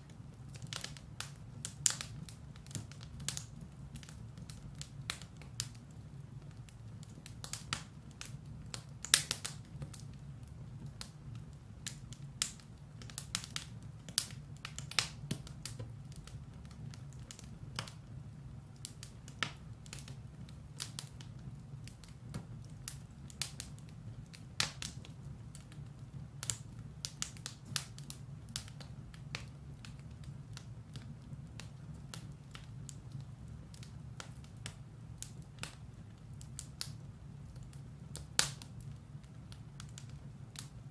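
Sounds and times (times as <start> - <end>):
fire low rumble: 0.0 - 40.9
firewood crackling and popping: 0.0 - 40.9.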